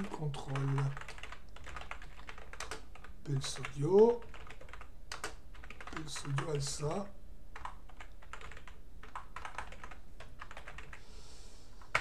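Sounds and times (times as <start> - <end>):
typing on computer keyboard: 0.0 - 6.7, 7.6 - 11.0.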